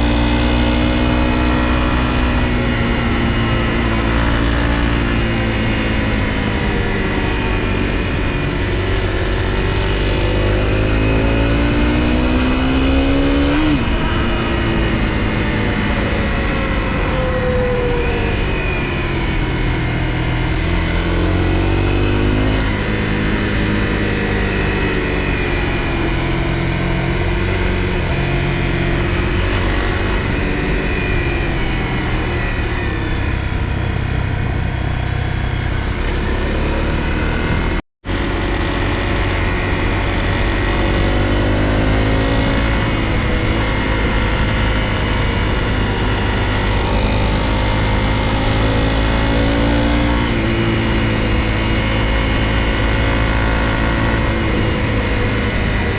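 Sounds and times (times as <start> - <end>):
motorcycle engine revving: 0.0 - 55.9
wind and road noise: 0.0 - 55.9.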